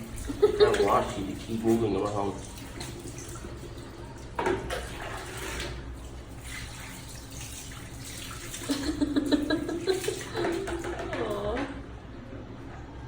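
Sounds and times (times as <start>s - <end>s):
running water splashing: 0.0s - 11.6s.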